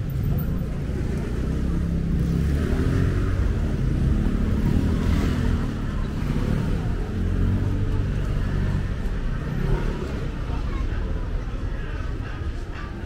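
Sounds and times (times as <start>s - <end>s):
city street noise: 0.0s - 13.0s.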